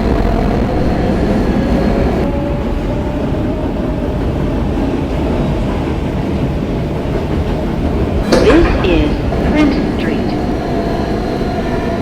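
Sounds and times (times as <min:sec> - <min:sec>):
subway car rumbling in tunnel: 0:00.0 - 0:12.0.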